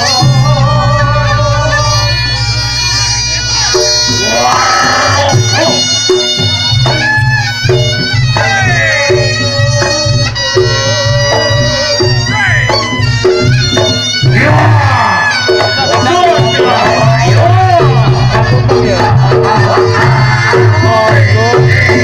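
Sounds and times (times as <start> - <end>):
drums and gongs beat: 0.0 - 22.0.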